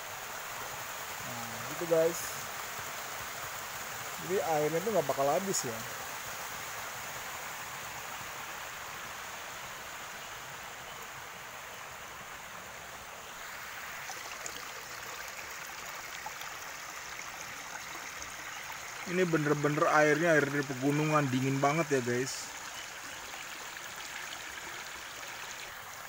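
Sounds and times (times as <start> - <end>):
stream water over rocks: 0.0 - 26.0.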